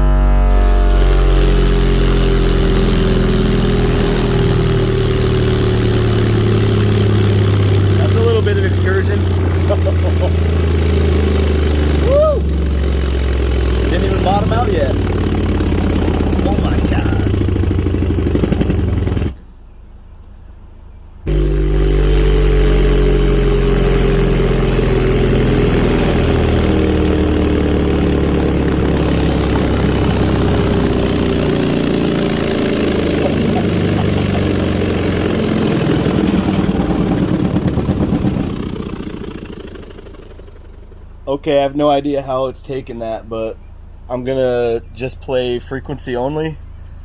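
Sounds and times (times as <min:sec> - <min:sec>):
loud low subwoofer drone: 0:00.0 - 0:19.6, 0:21.2 - 0:41.4.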